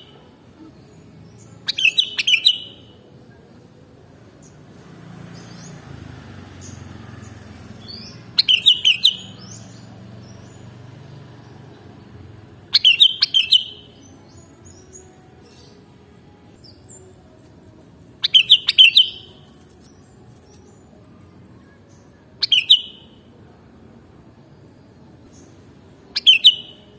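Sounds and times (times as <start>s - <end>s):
bulbul singing: 0.0s - 3.1s, 4.4s - 23.3s, 25.2s - 26.9s.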